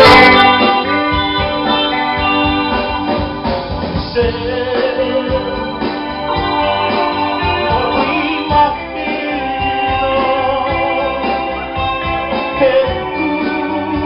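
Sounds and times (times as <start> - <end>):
bass guitar: 0.0 - 14.0
drums: 0.0 - 14.0
organ-style keyboard chords: 0.0 - 14.0.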